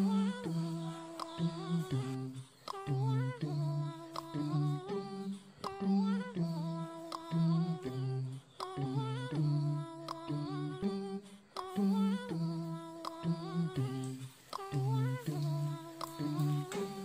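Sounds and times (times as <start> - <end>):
steady beat of clicks: 0.0 - 9.3, 10.0 - 10.6, 11.5 - 17.0
hummed vocal melody: 0.0 - 17.0.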